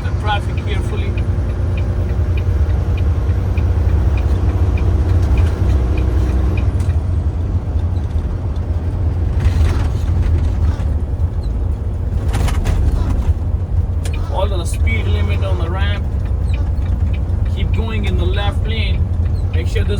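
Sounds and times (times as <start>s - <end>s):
turn signal ticking: 0.0s - 9.5s, 10.2s - 19.9s
truck engine and road rumble: 0.0s - 19.9s.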